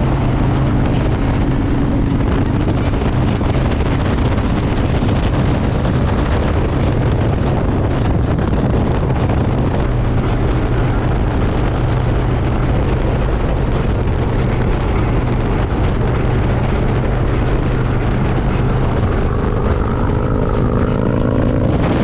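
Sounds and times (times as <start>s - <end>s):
motorcycle engine cruising: 0.0s - 22.0s
wind rush on microphone: 0.0s - 22.0s.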